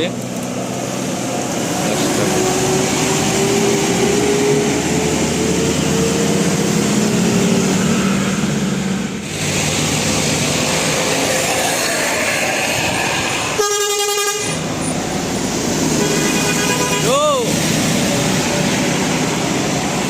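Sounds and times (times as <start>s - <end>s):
large vehicle engine: 0.0s - 20.0s
road noise: 0.0s - 20.0s.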